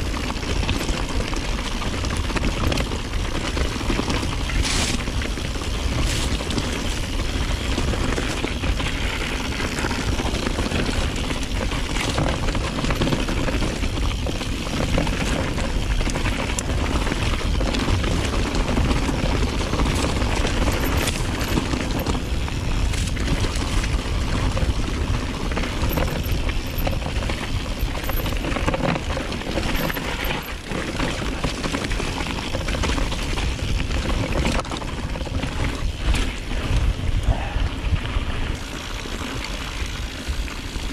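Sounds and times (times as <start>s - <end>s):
bike tyres rolling on trail: 0.0s - 40.9s
wind rumble on microphone: 0.0s - 40.9s.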